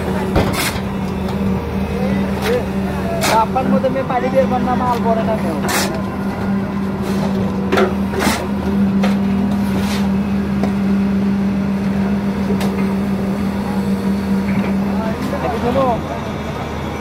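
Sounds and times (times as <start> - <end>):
diesel machinery droning: 0.0 - 17.0.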